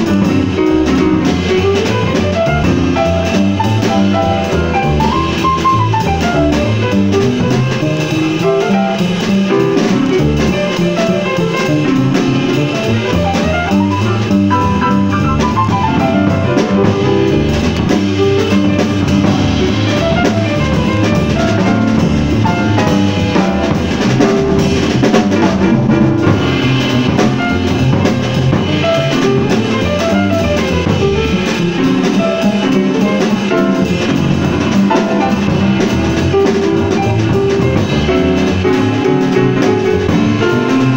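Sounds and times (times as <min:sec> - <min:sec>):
jazz piano runs: 0:00.0 - 0:40.9
steady drum beat: 0:00.0 - 0:40.9.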